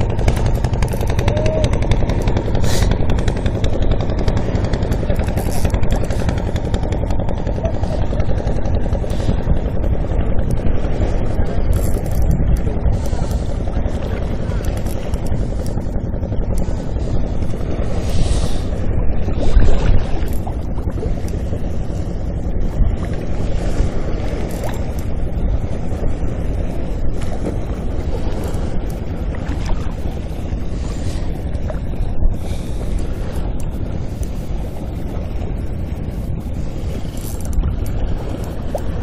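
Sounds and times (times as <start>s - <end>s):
sea waves washing: 0.0s - 39.0s
wind buffeting microphone: 0.0s - 39.0s.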